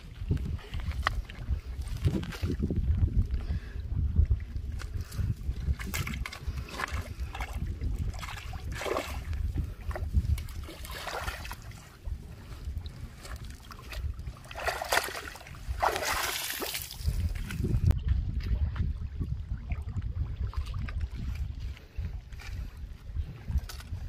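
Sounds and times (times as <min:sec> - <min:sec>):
water splashing and sloshing: 0:00.0 - 0:24.0
wind rumble on microphone: 0:00.0 - 0:24.0.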